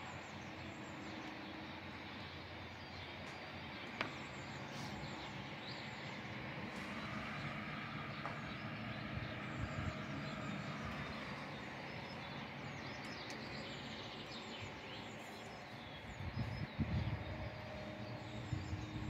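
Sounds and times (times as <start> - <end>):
distant traffic hum: 0.0 - 19.0.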